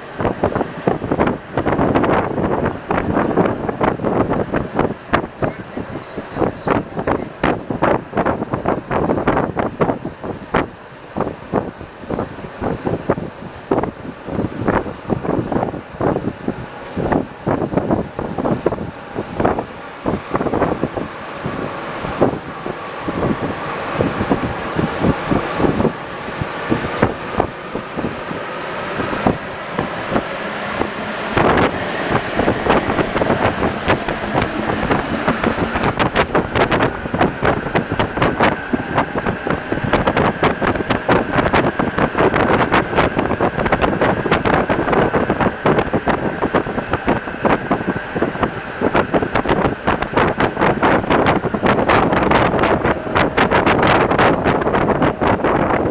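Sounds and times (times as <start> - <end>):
metro train whine: 0.0 - 55.9.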